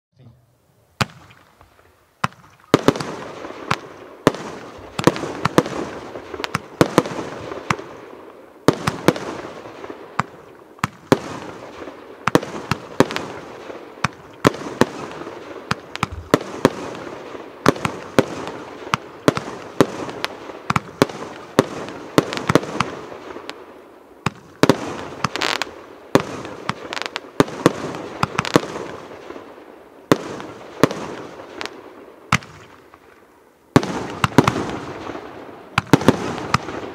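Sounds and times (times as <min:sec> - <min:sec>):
fireworks bangs and bursts: 0:01.0 - 0:36.9.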